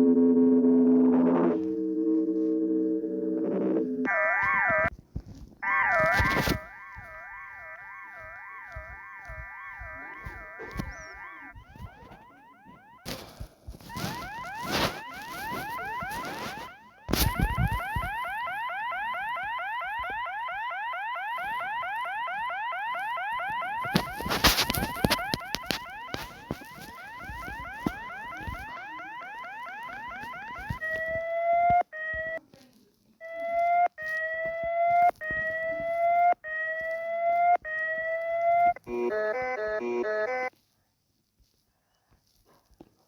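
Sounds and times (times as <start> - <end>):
electronic warning alarm: 0.0 - 5.0, 5.6 - 32.4, 33.2 - 40.6.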